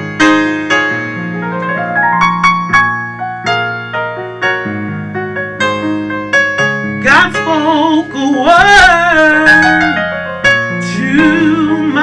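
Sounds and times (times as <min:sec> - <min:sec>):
slow gospel piano: 0:00.0 - 0:12.0.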